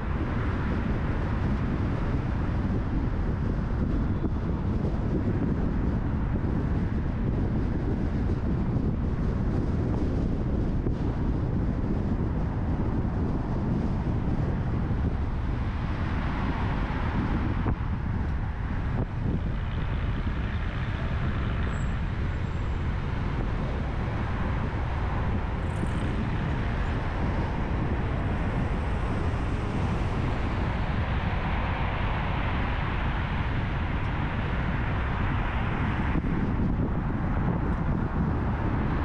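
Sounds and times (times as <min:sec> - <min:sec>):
car tyres and engine rumble: 0:00.0 - 0:39.0.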